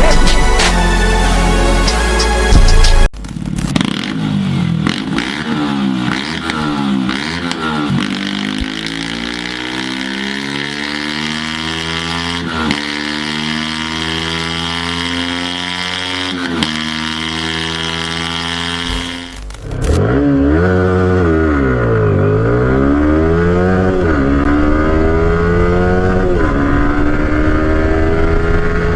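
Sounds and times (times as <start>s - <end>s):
motorcycle engine revving: 2.6s - 28.9s.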